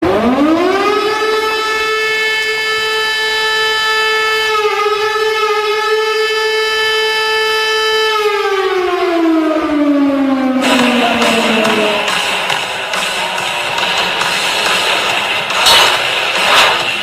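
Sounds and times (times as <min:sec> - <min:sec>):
hockey goal siren: 0:00.0 - 0:14.8.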